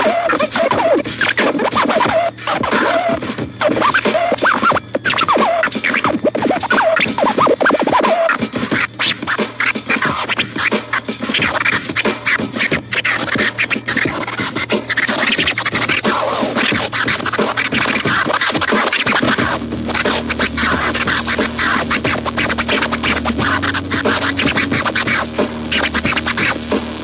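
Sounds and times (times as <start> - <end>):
turntable scratching: 0.0 - 27.0.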